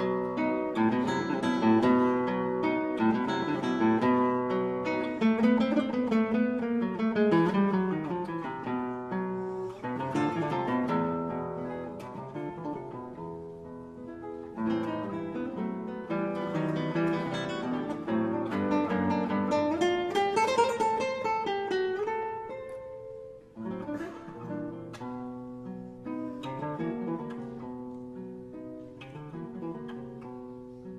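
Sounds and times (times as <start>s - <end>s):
acoustic guitar music: 0.0s - 30.9s.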